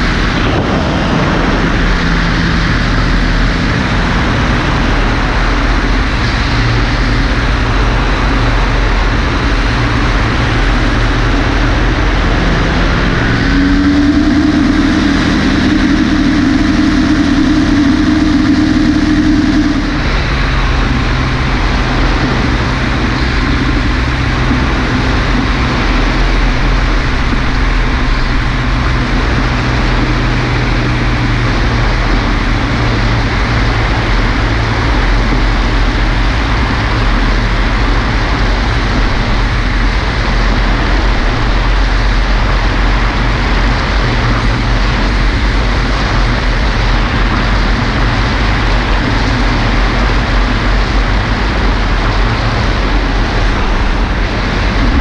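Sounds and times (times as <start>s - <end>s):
air rushing over microphone: 0.0s - 55.0s
microlight engine running: 0.0s - 55.0s.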